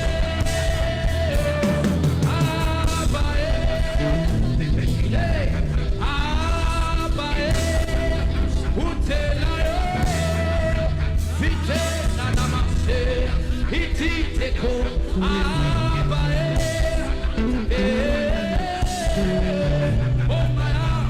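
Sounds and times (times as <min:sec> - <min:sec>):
bass guitar: 0:00.0 - 0:21.0
drums keeping a steady beat: 0:00.0 - 0:21.0
person singing: 0:00.0 - 0:21.0.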